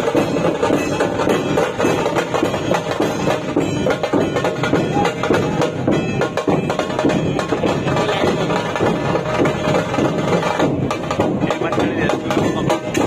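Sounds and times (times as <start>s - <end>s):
drums beating fast rhythm: 0.0s - 13.0s.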